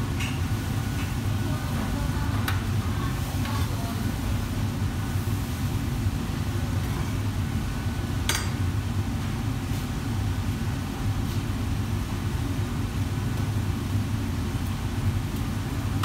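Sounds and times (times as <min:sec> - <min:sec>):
gas burners and extraction roar: 0:00.0 - 0:16.0.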